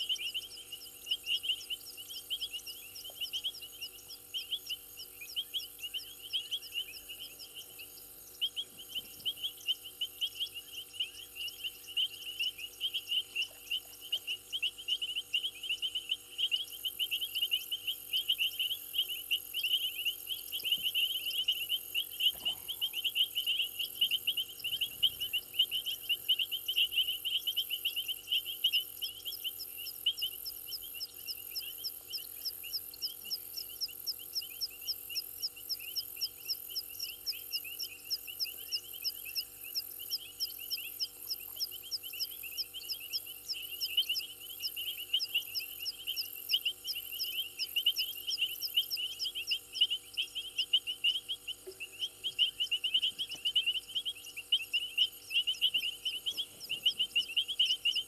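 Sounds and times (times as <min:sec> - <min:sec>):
faint steady hum: 0:00.0 - 0:58.0
frogs calling in rapid pulses: 0:00.0 - 0:58.0
higher-pitched frog calls: 0:00.0 - 0:58.0
steady high hiss: 0:00.0 - 0:58.0.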